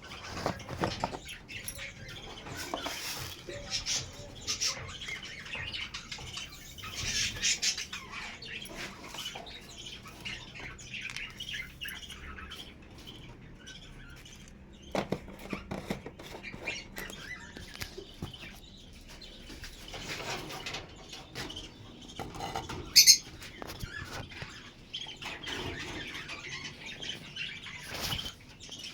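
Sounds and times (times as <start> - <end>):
budgerigars chattering and chirping: 0.0 - 28.9.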